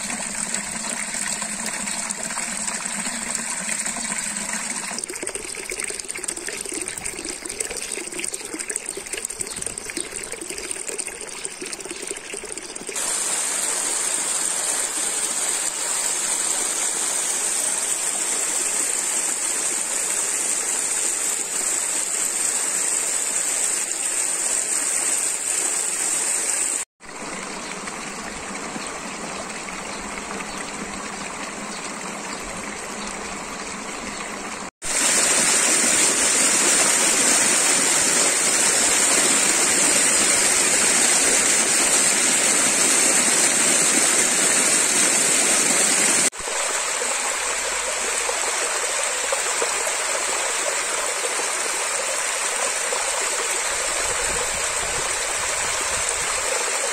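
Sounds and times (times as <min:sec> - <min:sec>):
water rushing down channels: 0:00.0 - 0:56.9.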